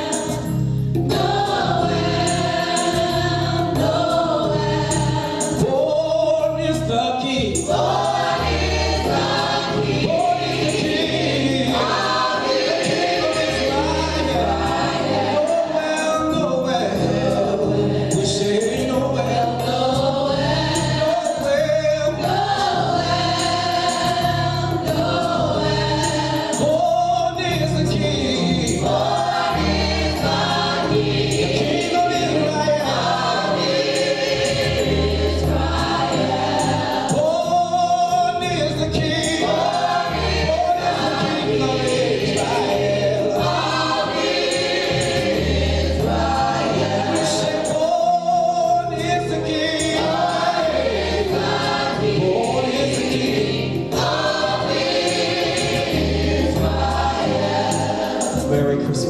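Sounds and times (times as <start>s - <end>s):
choir singing gospel music: 0.0s - 59.0s.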